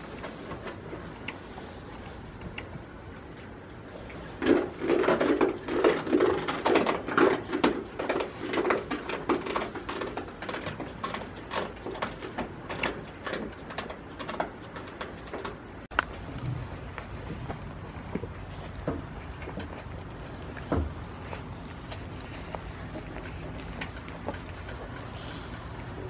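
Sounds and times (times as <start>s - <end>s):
goats rustling and scraping: 0.0s - 26.0s.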